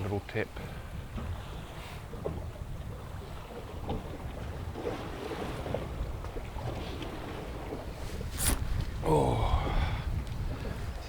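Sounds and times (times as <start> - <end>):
water slapping boat hull: 0.0 - 11.0
wind buffeting microphone: 0.0 - 11.0.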